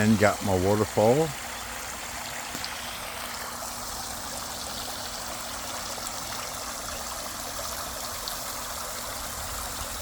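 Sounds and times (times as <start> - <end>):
water pouring into pool: 0.0 - 10.0.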